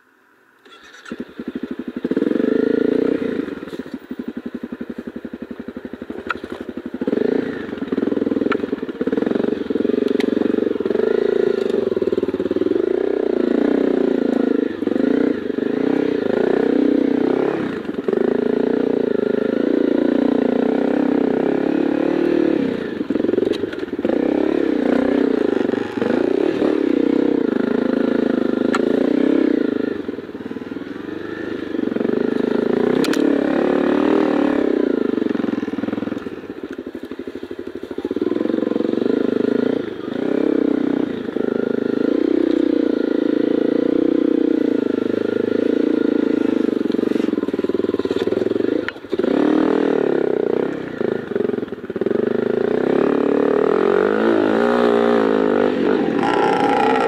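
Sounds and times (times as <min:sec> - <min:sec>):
motorcycle engine revving: 0:00.6 - 0:57.0
motorcycle engine starting: 0:00.6 - 0:57.0.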